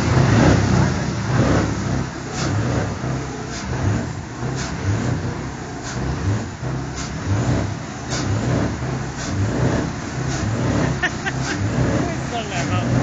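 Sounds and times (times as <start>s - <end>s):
truck diesel engine revving: 0.0s - 13.0s.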